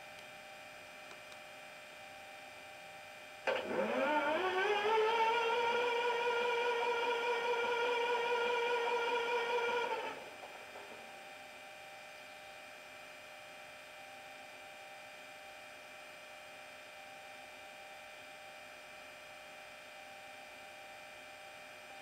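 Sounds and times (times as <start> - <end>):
model locomotive diesel idle hum: 0.0 - 22.0.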